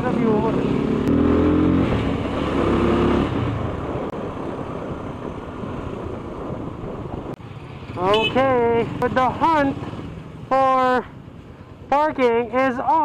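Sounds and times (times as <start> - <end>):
motorcycle engine: 0.0 - 11.7
rushing wind and road noise: 0.0 - 13.0.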